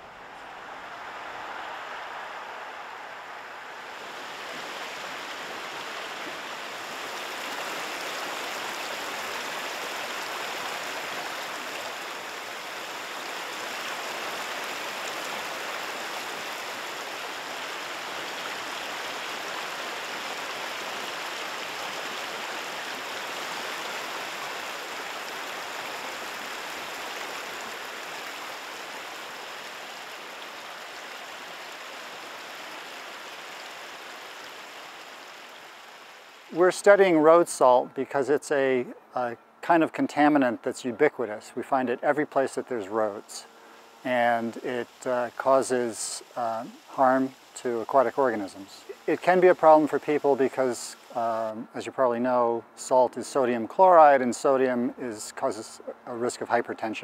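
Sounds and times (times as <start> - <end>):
river water rushing: 0.0 - 38.4, 41.3 - 51.6.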